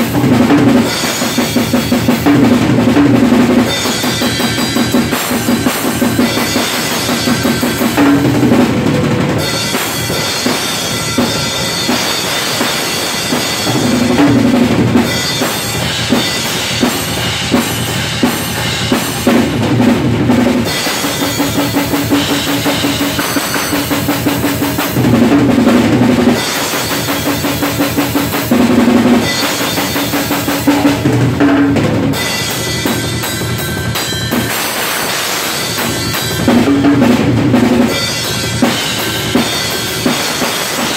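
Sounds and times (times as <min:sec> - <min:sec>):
crash and ride cymbals: 0:00.0 - 0:40.9
drum kit played hard: 0:00.0 - 0:40.9.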